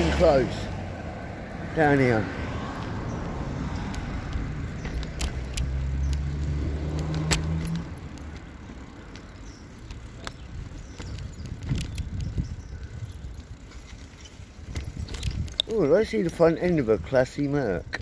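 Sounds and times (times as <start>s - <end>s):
bicycle rattling over paving joints: 0.0s - 18.0s.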